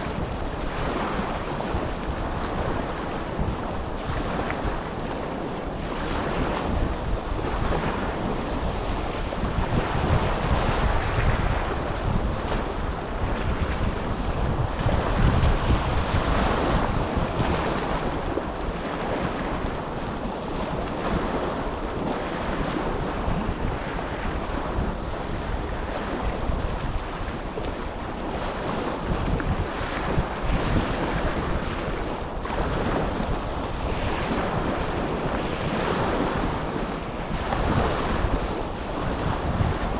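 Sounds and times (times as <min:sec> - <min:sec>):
small waves breaking on shore: 0:00.0 - 0:39.9
wind buffeting microphone: 0:00.0 - 0:39.9.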